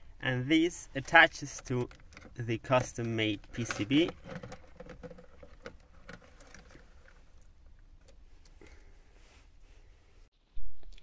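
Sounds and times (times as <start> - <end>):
wires rustling: 0.4 - 9.8.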